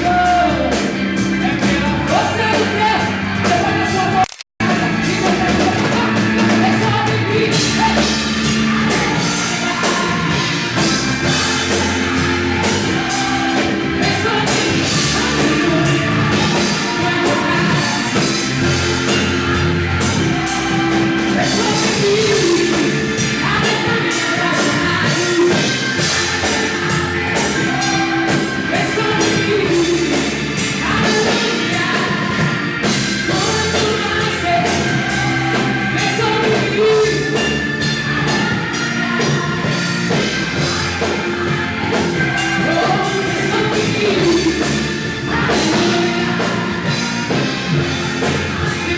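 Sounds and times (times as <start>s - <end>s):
singing over a full band: 0.0s - 48.9s.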